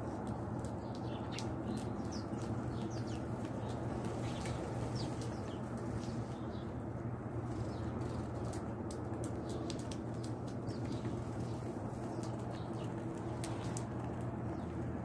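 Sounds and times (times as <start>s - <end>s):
sparrows chirping: 0.0s - 15.0s
steady low hum: 0.0s - 15.0s.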